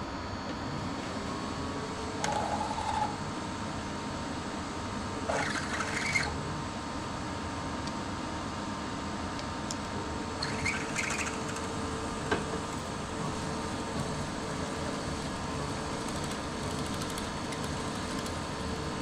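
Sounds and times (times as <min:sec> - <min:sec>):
milling machine running: 0:00.7 - 0:07.3, 0:09.8 - 0:19.0.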